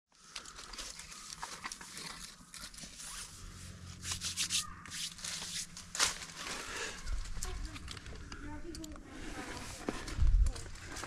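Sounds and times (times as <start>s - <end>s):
scratchy rasps and rustles: 0.2s - 11.0s.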